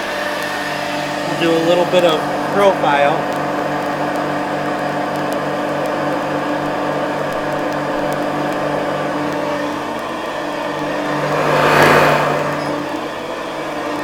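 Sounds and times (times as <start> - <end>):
upright vacuum cleaner running: 0.0 - 14.0.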